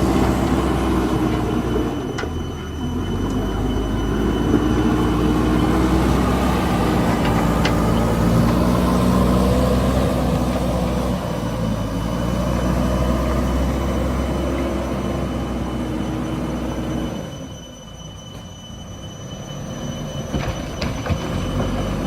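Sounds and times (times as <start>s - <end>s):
diesel engine running: 0.0s - 18.1s
faint high whine: 0.0s - 22.0s.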